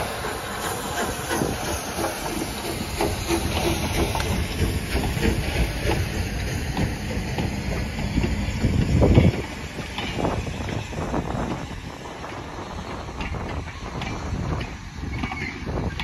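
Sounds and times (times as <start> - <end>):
coaches rolling over rail joints: 0.0 - 16.0
locomotive exhaust beats: 0.0 - 16.0
steam locomotive hissing steam: 0.0 - 16.0.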